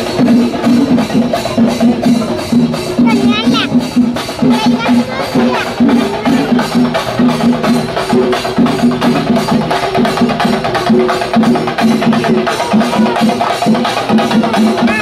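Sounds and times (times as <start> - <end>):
drum band playing: 0.0 - 15.0.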